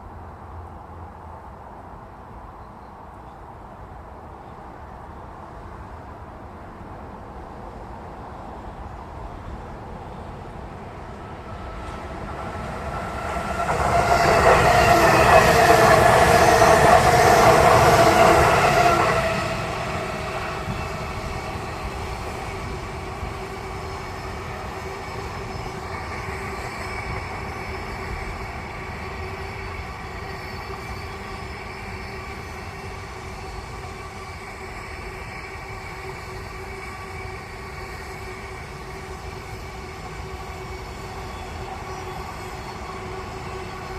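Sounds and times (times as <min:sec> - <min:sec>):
train passing: 0:00.0 - 0:43.9.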